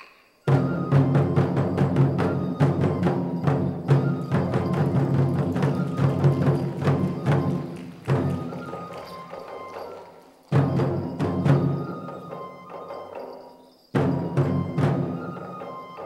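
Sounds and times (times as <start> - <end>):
sustained accompaniment tones: 0.2 - 16.0
taiko drums beaten with sticks: 0.5 - 16.0.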